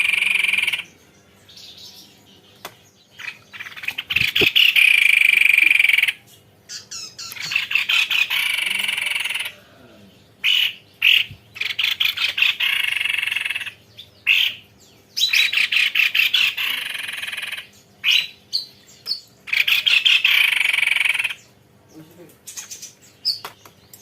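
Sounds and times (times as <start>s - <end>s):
bird singing rolling trills: 0.0s - 24.0s.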